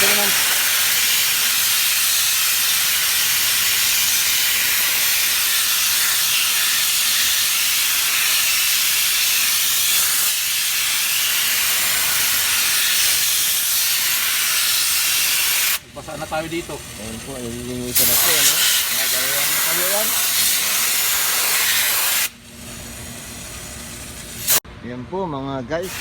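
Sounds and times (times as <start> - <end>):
high-pressure spray hissing: 0.0 - 24.6.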